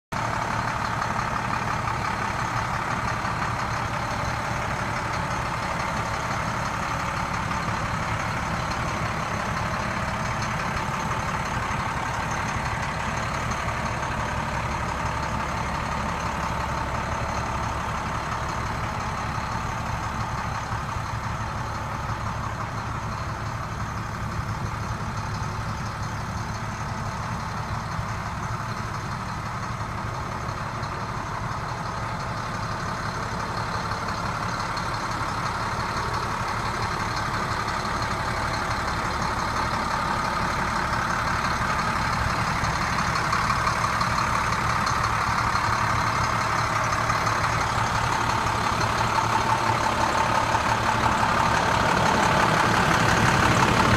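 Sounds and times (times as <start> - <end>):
diesel truck engine idling: 0.1 - 53.9.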